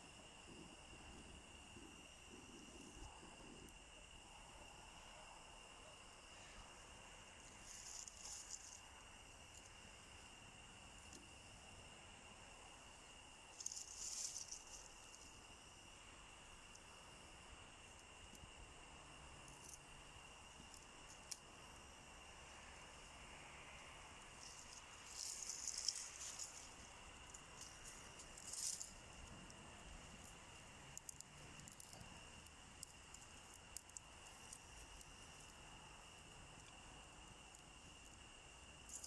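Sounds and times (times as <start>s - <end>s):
crickets chirring: 0.0s - 39.0s.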